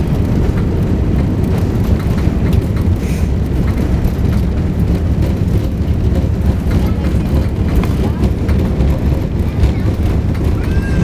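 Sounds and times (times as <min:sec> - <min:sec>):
airliner taking off rumble: 0:00.0 - 0:11.0.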